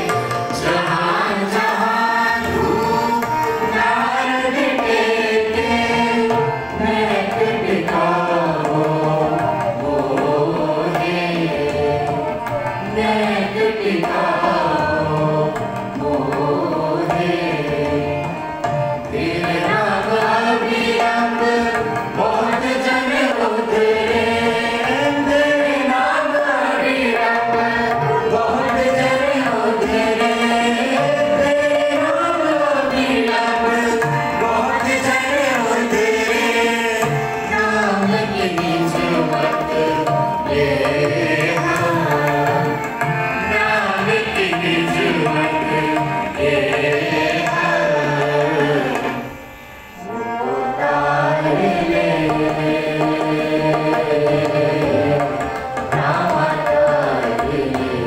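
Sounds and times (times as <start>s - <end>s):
harmonium: 0.0s - 58.0s
tabla drumming: 0.0s - 58.0s
voices singing a hymn: 0.0s - 58.0s.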